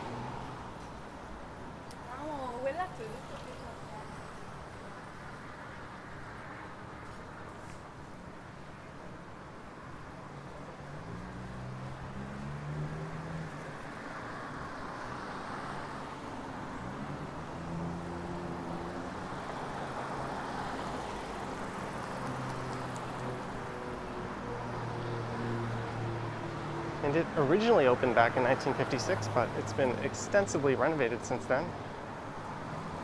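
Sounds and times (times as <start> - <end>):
vehicles passing: 0.0 - 33.0.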